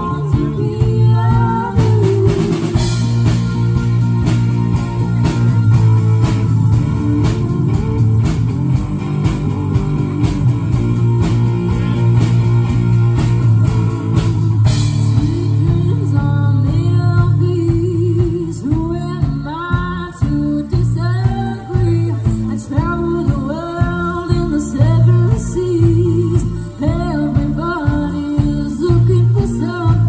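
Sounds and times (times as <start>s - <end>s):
bass line: 0.0s - 30.0s
drum kit beat: 0.0s - 30.0s
electric guitar: 0.0s - 30.0s.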